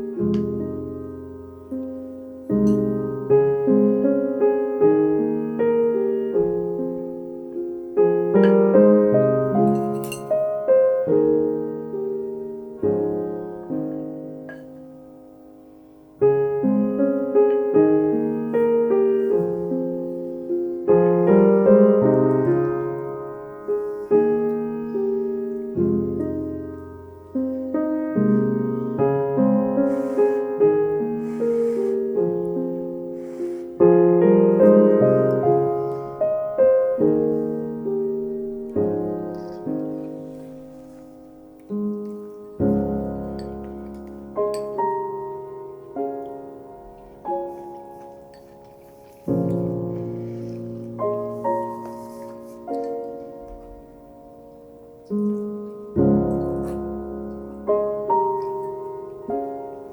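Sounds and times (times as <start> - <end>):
gentle solo piano music: 0.0 - 59.9.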